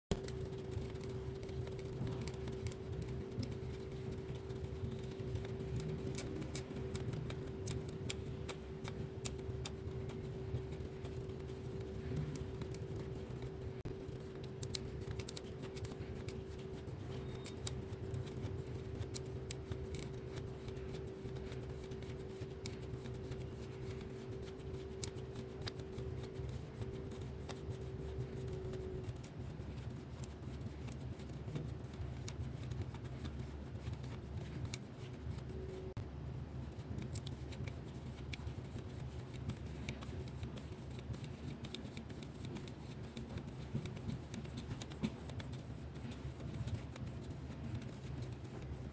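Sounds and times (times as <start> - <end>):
steady low hum: 0.1 - 48.9.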